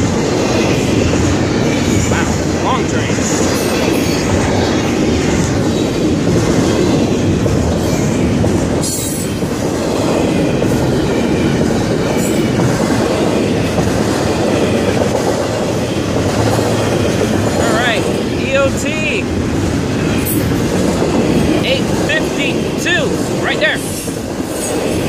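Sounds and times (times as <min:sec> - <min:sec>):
steel wheels on rails: 0:00.0 - 0:25.0.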